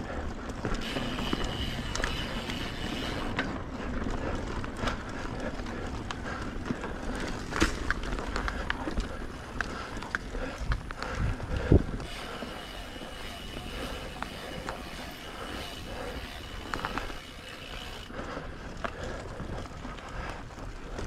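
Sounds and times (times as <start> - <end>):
bike rattling and knocking: 0.1 - 21.0
tyre noise on dirt: 0.3 - 21.0.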